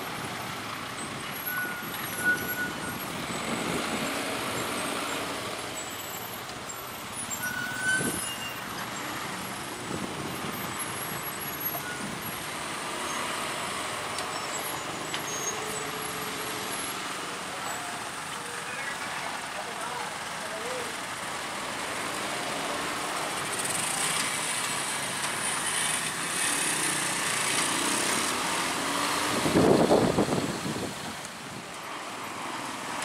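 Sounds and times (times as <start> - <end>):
trucks and cars driving slowly: 0.0 - 33.0.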